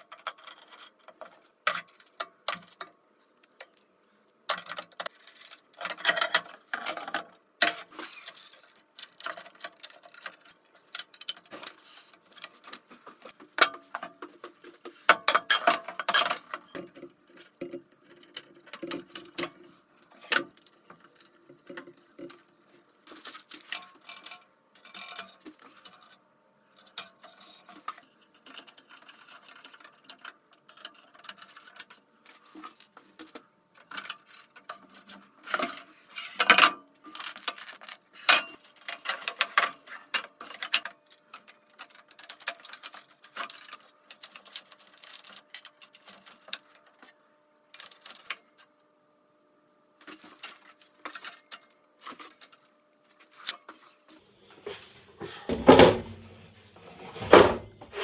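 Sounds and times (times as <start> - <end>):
metal parts clinking and scraping: 0.0 - 3.0, 4.5 - 26.2, 26.8 - 47.1, 47.7 - 48.7, 50.0 - 54.2.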